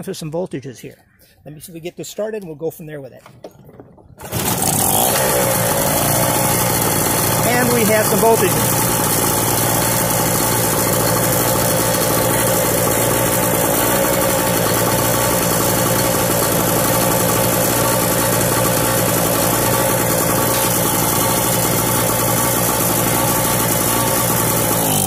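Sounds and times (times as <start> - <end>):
generator engine running: 3.3 - 25.0.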